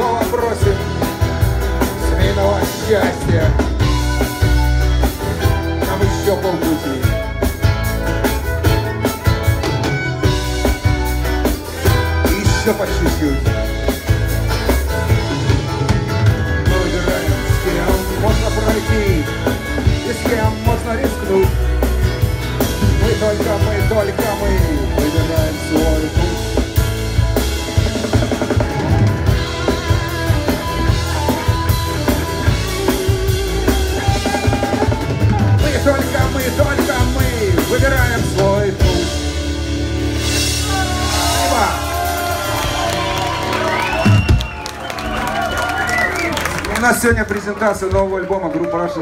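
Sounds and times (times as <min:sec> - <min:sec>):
electric guitar: 0:00.0 - 0:46.8
drum kit: 0:00.0 - 0:48.1.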